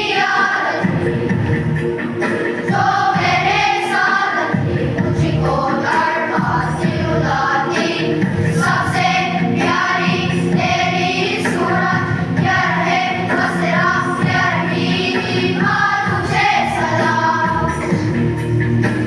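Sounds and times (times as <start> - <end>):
choir singing in unison: 0.0 - 1.5, 2.2 - 18.2.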